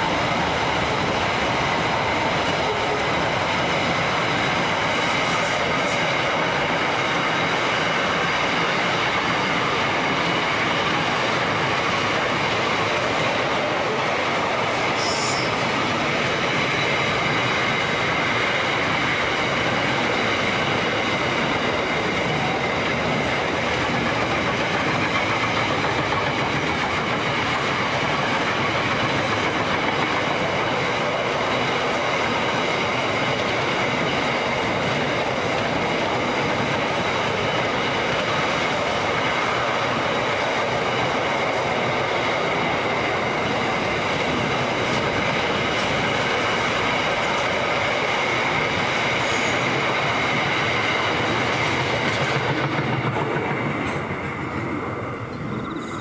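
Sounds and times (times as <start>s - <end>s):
freight train rumbling and rattling: 0.0s - 56.0s.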